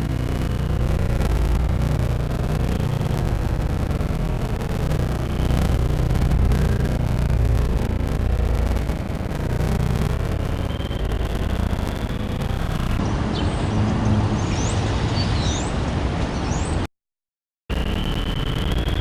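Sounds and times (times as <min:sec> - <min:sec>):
city traffic rumble: 0:00.0 - 0:16.9.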